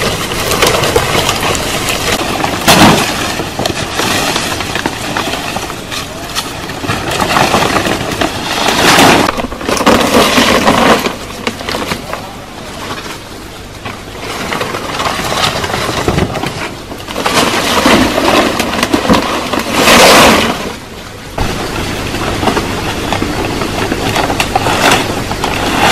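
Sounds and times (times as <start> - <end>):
leafy branches rustling and cracking: 0.0 - 25.9.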